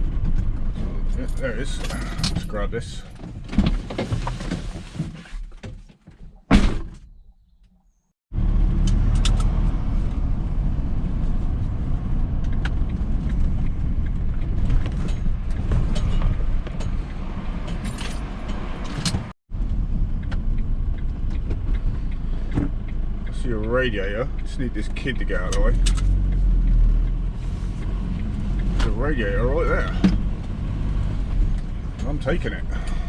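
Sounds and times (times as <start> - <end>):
vehicle road and engine rumble: 0.0 - 6.9, 8.3 - 33.0.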